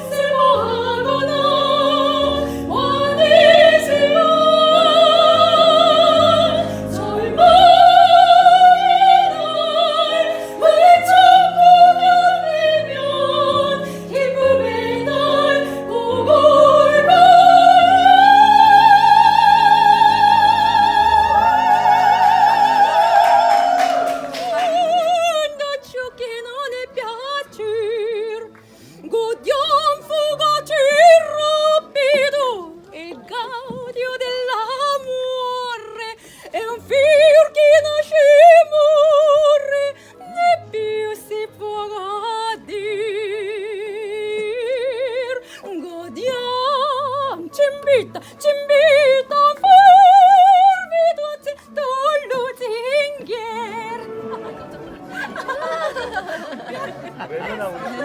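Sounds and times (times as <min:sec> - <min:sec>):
lower singing with vibrato: 0:00.0 - 0:28.4, 0:36.6 - 0:56.9
soprano singing opera: 0:00.0 - 0:57.1.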